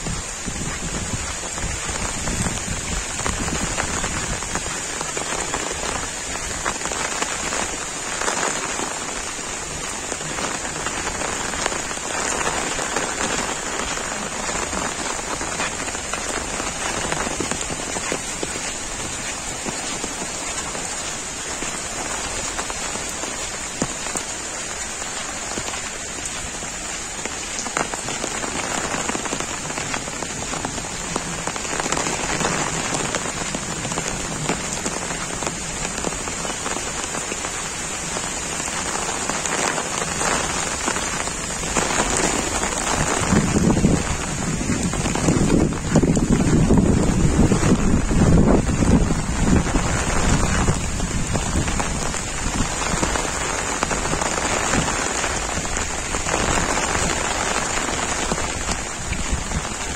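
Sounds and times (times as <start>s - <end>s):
heavy rain hiss: 0.0s - 59.9s
raindrops striking close by: 0.0s - 59.9s.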